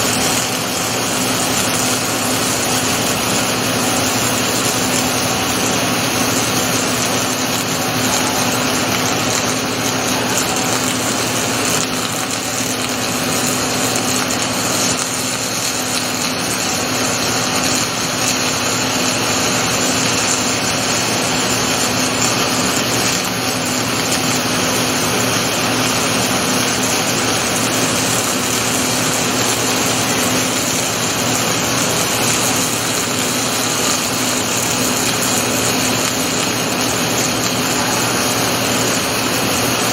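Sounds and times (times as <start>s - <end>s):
welding machine hiss: 0.0s - 39.9s.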